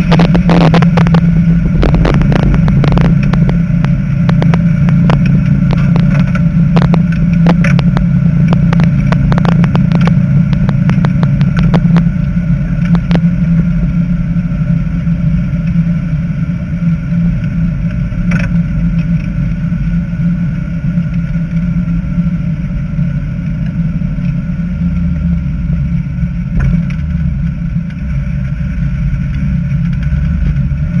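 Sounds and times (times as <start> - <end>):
car engine droning in cabin: 0.0 - 31.0.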